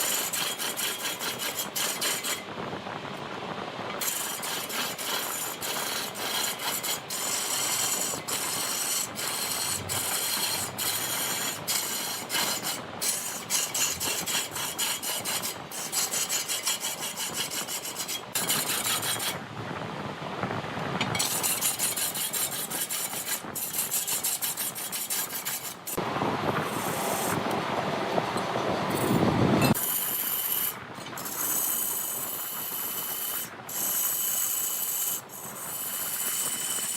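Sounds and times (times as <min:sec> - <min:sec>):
lathe tool scraping wood: 0:00.0 - 0:02.4, 0:04.0 - 0:19.4, 0:21.1 - 0:26.0, 0:26.6 - 0:27.5, 0:29.7 - 0:36.9.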